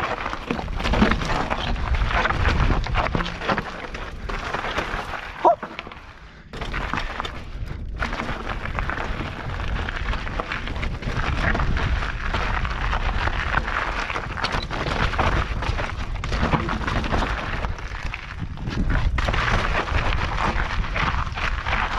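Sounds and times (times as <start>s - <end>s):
wind rumble on microphone: 0.0s - 5.1s, 6.4s - 21.9s
bike knocks and rattles: 0.0s - 21.9s
tyres crunching over gravel: 0.0s - 21.9s.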